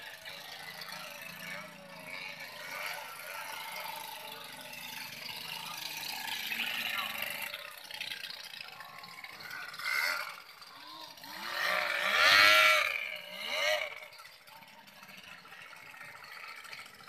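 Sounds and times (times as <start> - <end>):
outboard motors revving: 0.0 - 17.0.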